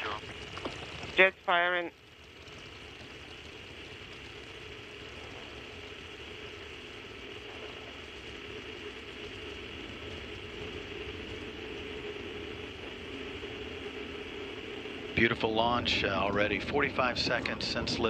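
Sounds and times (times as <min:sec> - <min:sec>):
faint low hum: 0:00.0 - 0:18.0
rocket engines rushing rumble: 0:00.0 - 0:18.0.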